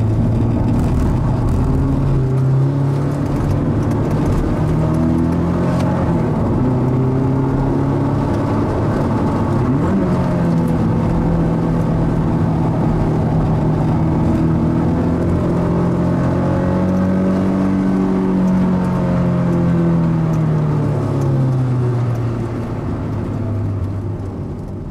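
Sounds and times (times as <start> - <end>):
car engine running: 0.0 - 24.9.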